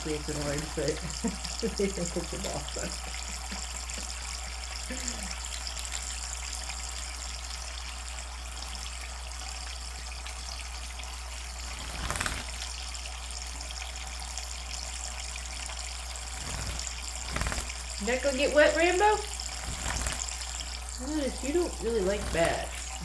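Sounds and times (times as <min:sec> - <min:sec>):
tap water running: 0:00.0 - 0:23.0.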